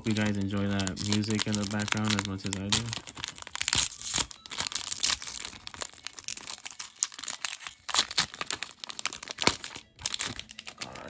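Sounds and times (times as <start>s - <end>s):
foil pack crinkling: 0.0s - 11.0s.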